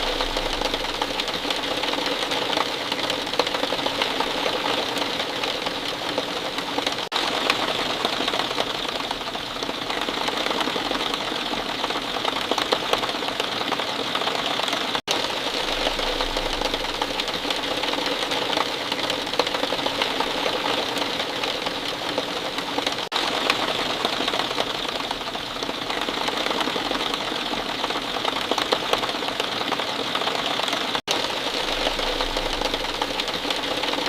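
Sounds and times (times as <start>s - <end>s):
steady falling rain: 0.0s - 34.0s.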